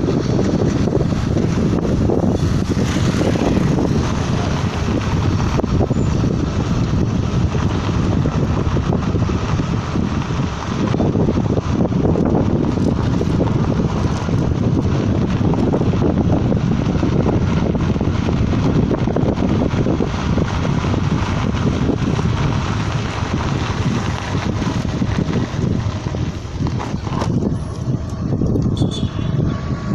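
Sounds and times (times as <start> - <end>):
diesel engine running: 0.0 - 29.9
wind buffeting microphone: 0.0 - 29.9.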